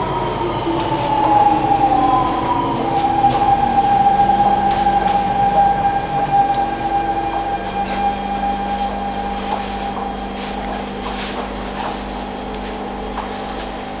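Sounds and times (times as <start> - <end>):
electrical hum and whine: 0.0 - 14.0
train low rumble: 0.0 - 14.0.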